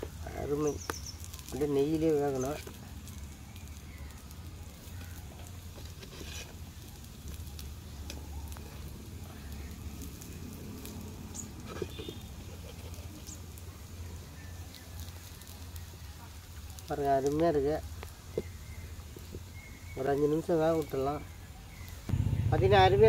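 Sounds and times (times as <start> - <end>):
food sizzling and crackling: 0.0 - 23.0.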